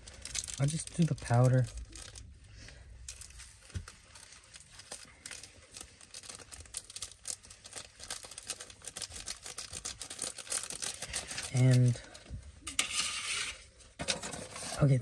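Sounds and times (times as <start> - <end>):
sachets crinkling: 0.0 - 12.2.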